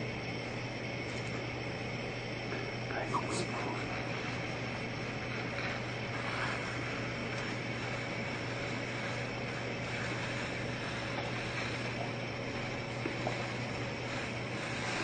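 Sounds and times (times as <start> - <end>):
mechanical drone: 0.0 - 15.0.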